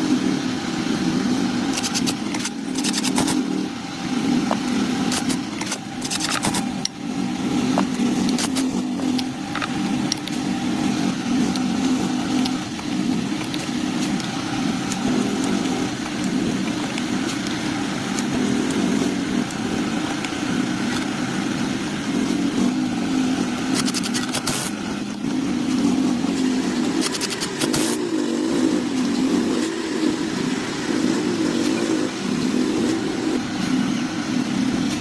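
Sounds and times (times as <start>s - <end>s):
motor running steadily: 0.0s - 35.0s
rapid clicks: 1.0s - 35.0s.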